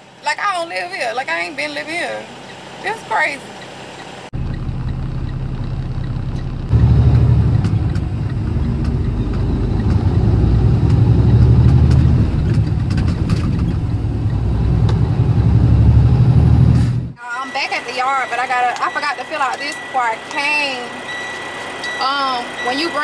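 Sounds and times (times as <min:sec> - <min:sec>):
diesel truck engine drone: 0:00.0 - 0:23.0.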